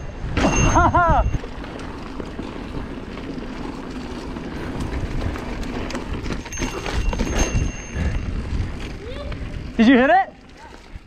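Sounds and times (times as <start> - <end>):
bike knocking and rattling: 0.0 - 11.0
tyres rolling over dirt: 0.0 - 11.0.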